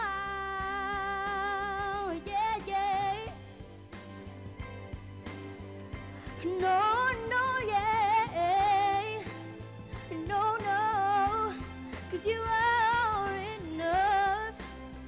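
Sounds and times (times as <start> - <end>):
woman singing a pop ballad: 0.0 - 3.6, 6.0 - 15.0
backing music: 0.0 - 15.0.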